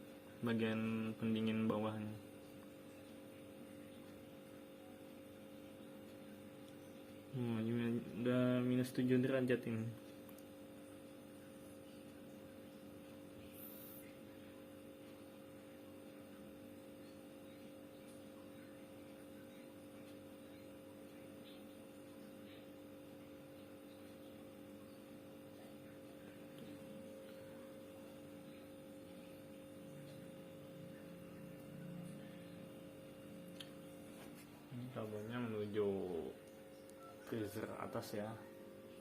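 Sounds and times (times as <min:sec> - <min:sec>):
refrigerator hum: 0:00.0 - 0:39.0.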